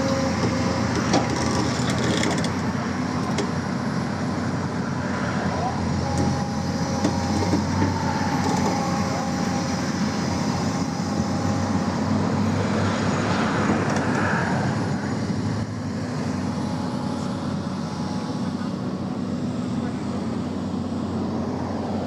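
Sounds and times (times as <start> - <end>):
excavator diesel engine running: 0.0 - 22.0
faint hydraulic whine: 0.0 - 22.0.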